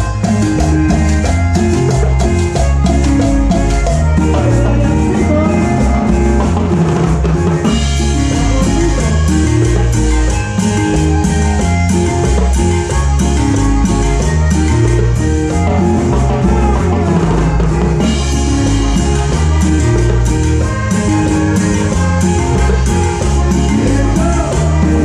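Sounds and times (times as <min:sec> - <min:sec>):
bass line: 0:00.0 - 0:25.0
drum kit with snare and bass drum: 0:00.0 - 0:25.0.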